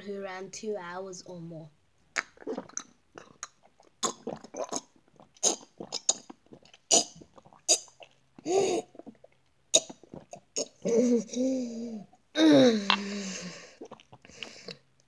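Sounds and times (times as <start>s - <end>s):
person gulping water: 2.2s - 15.0s.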